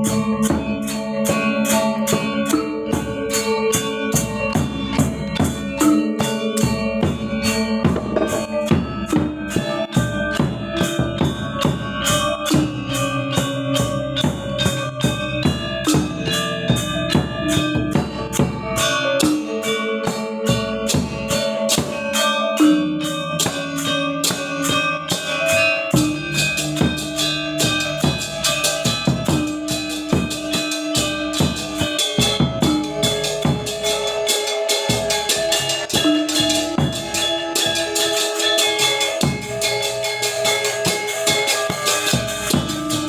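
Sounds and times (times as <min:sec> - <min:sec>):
drum beats: 0:00.0 - 0:43.0
gamelan ensemble playing: 0:00.0 - 0:43.0.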